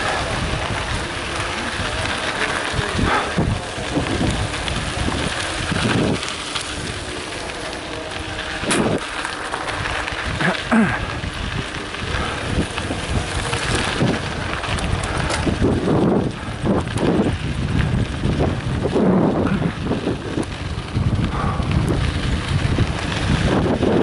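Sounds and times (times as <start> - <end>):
bike rattling: 0.0 - 24.0
tyres crunching over gravel: 0.0 - 24.0
wind buffeting microphone: 0.0 - 24.0.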